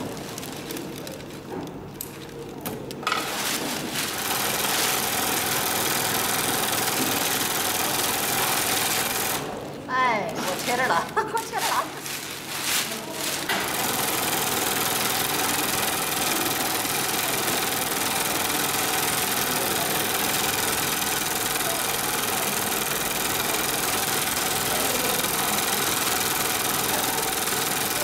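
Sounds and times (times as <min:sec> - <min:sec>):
sewing machine chatter: 0:03.7 - 0:12.3, 0:12.9 - 0:28.0.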